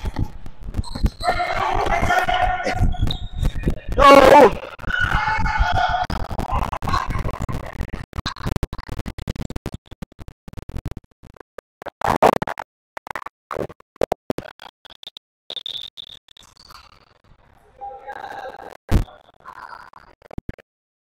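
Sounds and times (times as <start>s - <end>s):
stuttering glitchy noise bursts: 0.0s - 20.6s.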